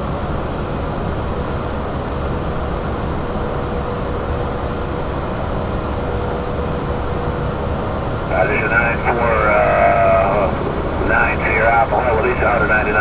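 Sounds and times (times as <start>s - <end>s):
airflow and engine rumble: 0.0s - 13.0s
faint steady hum: 0.0s - 13.0s.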